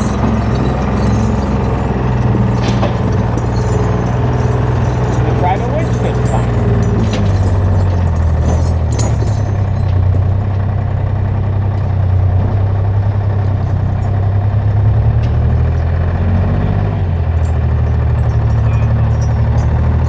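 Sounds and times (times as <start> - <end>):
large engine running steadily: 0.0 - 20.0.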